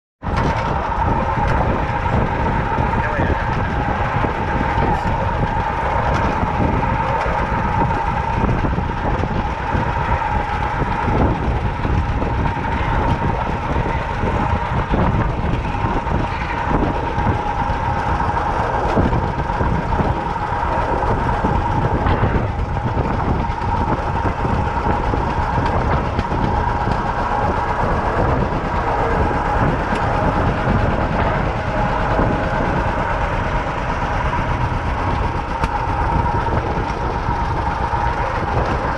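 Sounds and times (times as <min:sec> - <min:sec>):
steady whine: 0:00.2 - 0:38.9
tractor engine running: 0:00.2 - 0:38.9.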